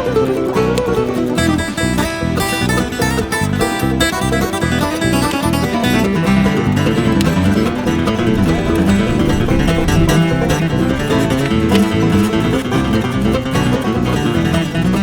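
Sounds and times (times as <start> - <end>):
bluegrass tune with banjo and guitar: 0.0 - 15.0.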